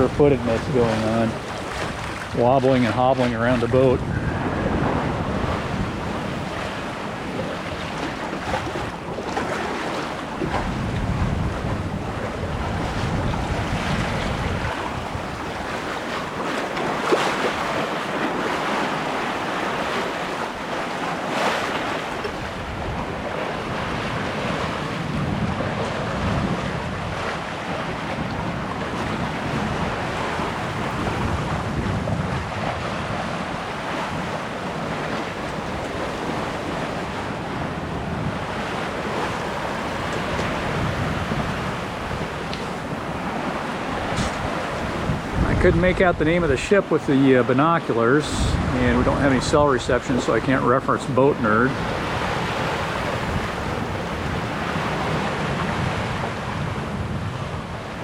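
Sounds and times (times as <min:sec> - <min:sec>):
water washing past boat: 0:00.0 - 0:58.0
wind buffeting microphone: 0:00.0 - 0:58.0.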